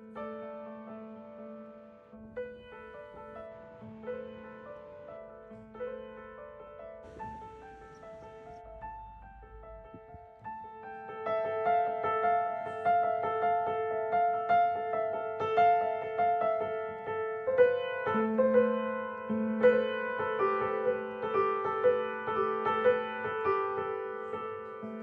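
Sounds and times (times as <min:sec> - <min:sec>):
calm piano music: 0:00.0 - 0:25.0.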